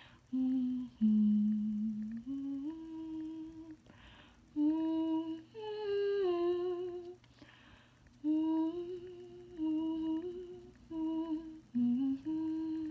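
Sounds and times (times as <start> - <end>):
woman humming: 0.0 - 3.9, 4.5 - 7.2, 8.2 - 12.9.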